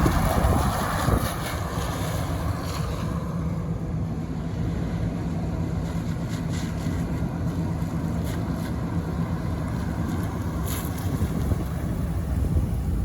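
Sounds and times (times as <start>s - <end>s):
car engine hum: 0.0s - 13.0s
road and wind noise: 0.0s - 13.0s.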